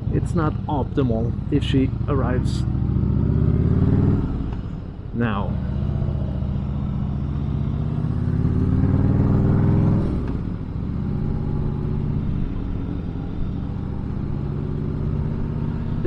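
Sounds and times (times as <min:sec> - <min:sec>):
motorcycle engine accelerating: 0:01.4 - 0:04.9, 0:05.5 - 0:16.0.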